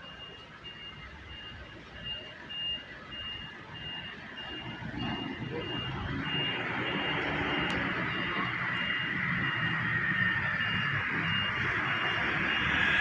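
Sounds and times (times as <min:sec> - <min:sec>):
reversing alarm beeping: 0:00.0 - 0:13.0
street traffic: 0:00.0 - 0:13.0.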